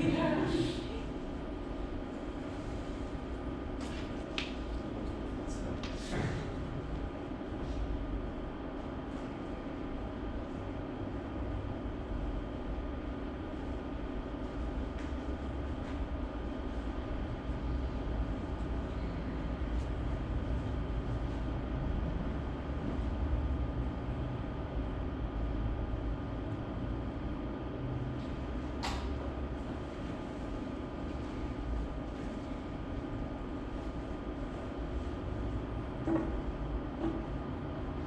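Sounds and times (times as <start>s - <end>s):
low room rumble: 0.0s - 38.0s.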